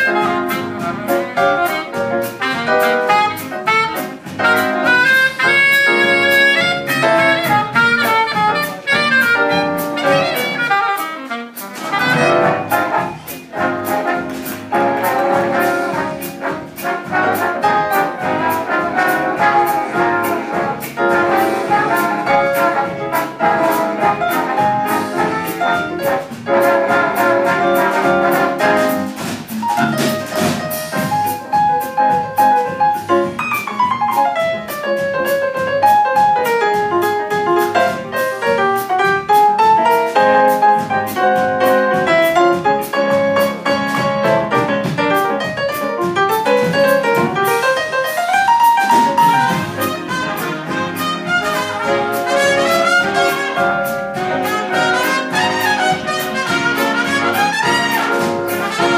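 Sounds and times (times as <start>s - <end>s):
jazz big band playing: 0.0s - 58.9s.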